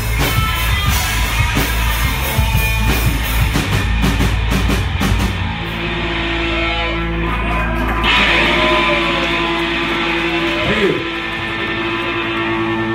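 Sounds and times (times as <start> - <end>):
drums: 0.0 - 12.9
rock band ringing chord: 0.0 - 12.9.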